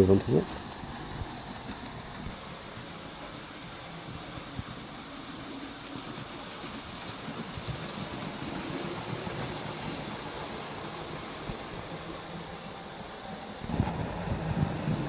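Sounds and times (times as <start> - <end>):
model train motor hum: 0.0 - 15.0
wheel rumble: 0.0 - 15.0.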